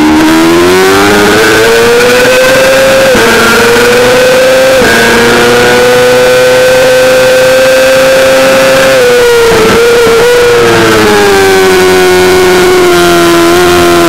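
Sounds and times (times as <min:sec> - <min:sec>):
motorcycle engine at full throttle: 0:00.0 - 0:14.0.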